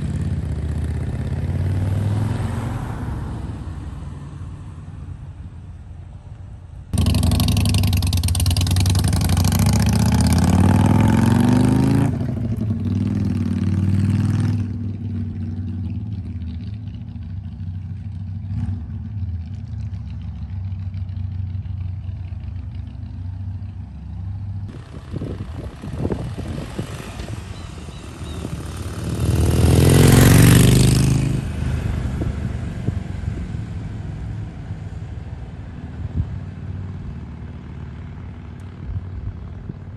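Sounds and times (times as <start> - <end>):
motorcycle engine accelerating: 0.0 - 3.0, 6.9 - 39.9
motorcycle passing by: 0.0 - 5.2, 6.9 - 39.9.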